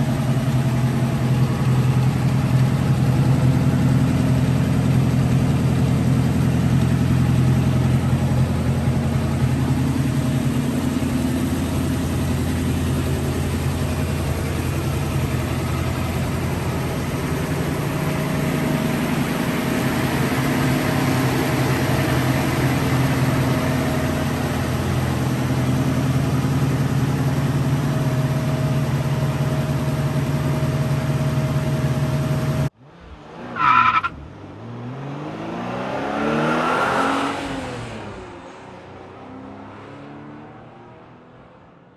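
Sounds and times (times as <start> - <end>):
car engine running: 0.0 - 34.4.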